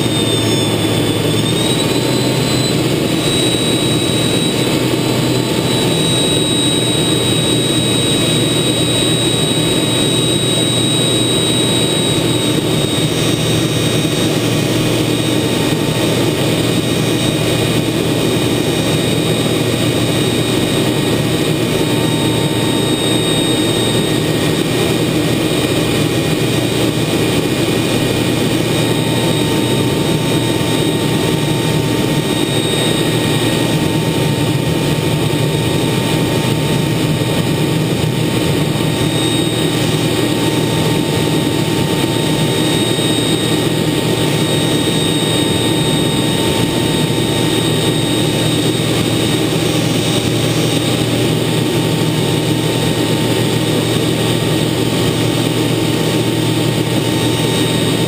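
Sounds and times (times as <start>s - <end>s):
high turbine whine: 0.0s - 58.0s
jet engine and airflow rush: 0.0s - 58.0s.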